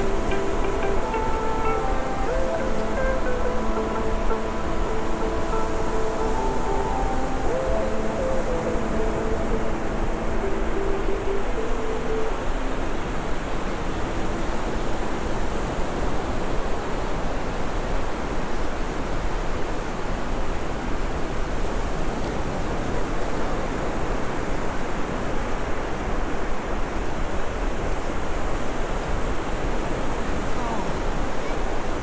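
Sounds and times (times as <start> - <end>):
ocean surf breaking: 0.0 - 26.5
wind: 0.0 - 32.0.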